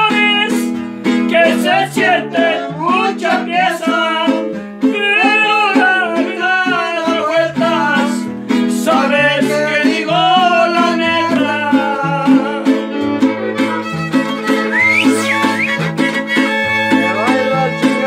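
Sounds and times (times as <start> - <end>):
string trio music: 0.0 - 18.0.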